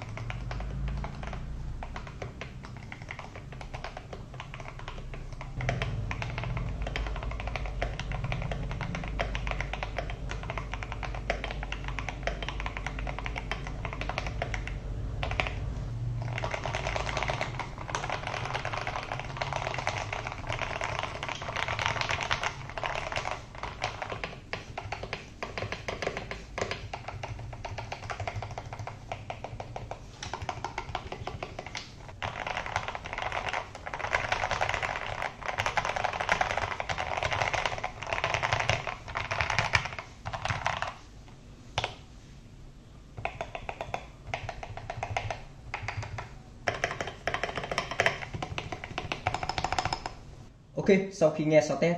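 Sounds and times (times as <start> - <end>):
mechanical keyboard typing: 0.0 - 41.1, 41.8 - 42.0, 43.2 - 50.2
low background hum: 0.0 - 51.9.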